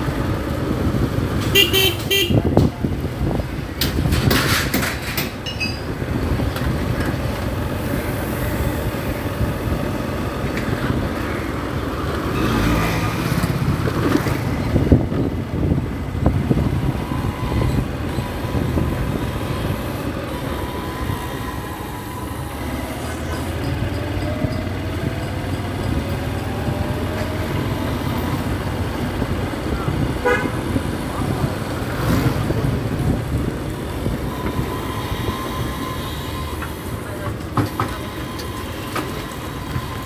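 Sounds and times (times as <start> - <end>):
low engine rumble of traffic: 0.0 - 40.0.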